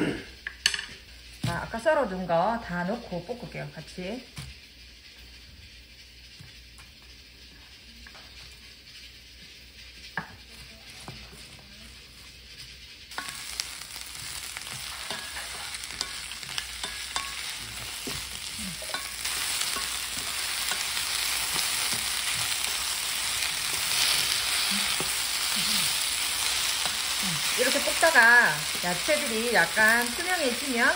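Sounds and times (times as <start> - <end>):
vegetables sizzling in oil: 0.1 - 30.9
spatula scraping a pan: 4.5 - 30.9.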